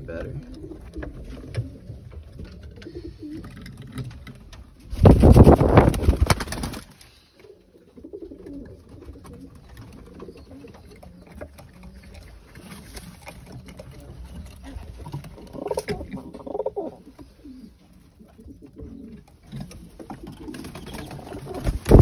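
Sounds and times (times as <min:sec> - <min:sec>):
pigeons cooing: 0:00.0 - 0:05.7, 0:07.1 - 0:22.0.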